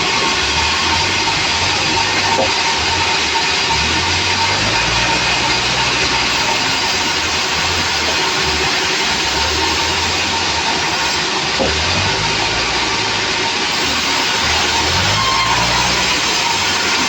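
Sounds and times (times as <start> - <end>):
saw roaring: 0.0 - 17.0.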